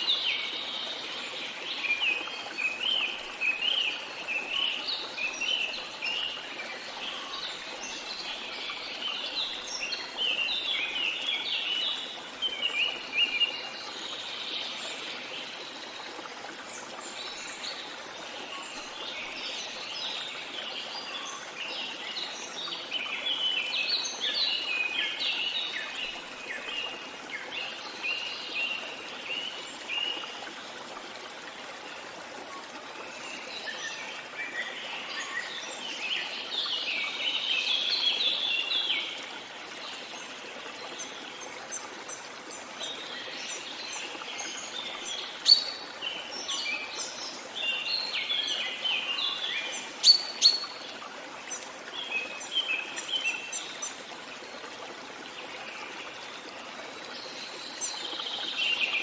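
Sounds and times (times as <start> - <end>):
small songbirds chirping: 0.0 - 54.6
running water: 0.0 - 59.0.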